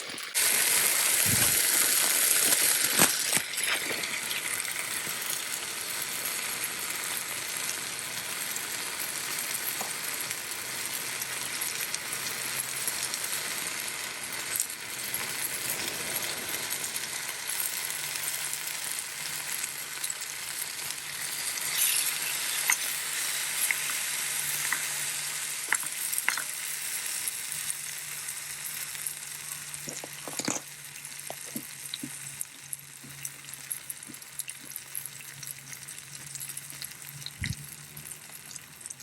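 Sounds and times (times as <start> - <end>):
meat sizzling in a pan: 0.0 - 39.0.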